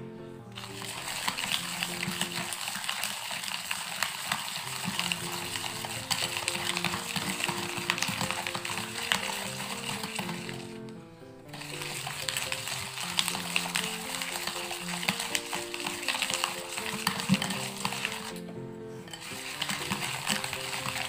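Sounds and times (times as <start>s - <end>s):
background music: 0.0s - 2.9s, 4.7s - 21.0s
strainer whisking coffee in bowl: 0.6s - 10.8s, 11.5s - 21.0s.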